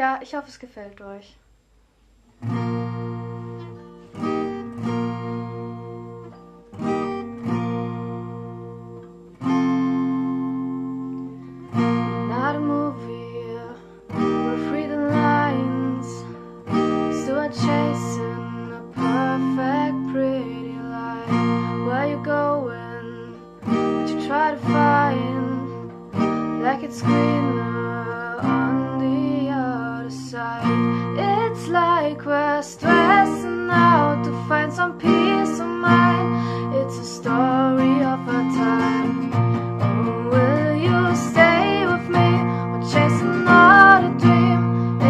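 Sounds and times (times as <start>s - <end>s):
acoustic guitar strummed chords: 2.3s - 45.0s.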